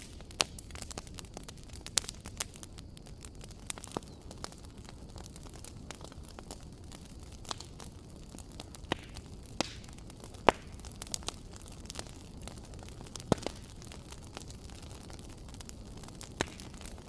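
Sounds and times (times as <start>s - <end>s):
fire popping: 0.0s - 17.0s
low fire rumble: 0.0s - 17.0s
wood fire crackling: 0.0s - 17.0s.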